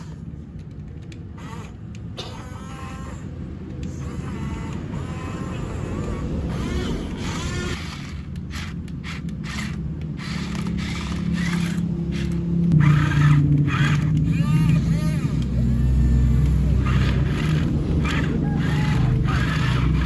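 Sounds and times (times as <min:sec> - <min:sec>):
steady hum: 0:00.0 - 0:20.0
toy motor and gear rumbling: 0:00.0 - 0:20.0.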